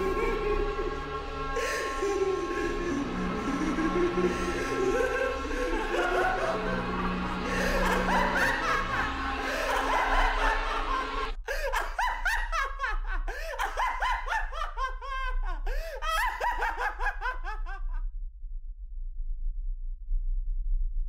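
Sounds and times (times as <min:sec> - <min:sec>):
person laughing: 0:00.0 - 0:18.0.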